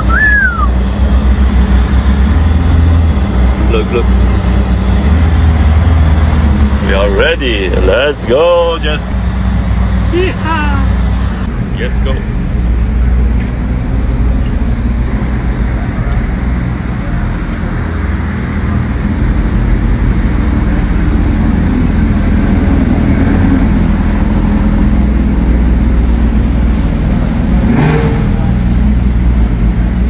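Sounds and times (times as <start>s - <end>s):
car engine drone: 0.0s - 30.0s
road noise: 0.0s - 30.0s.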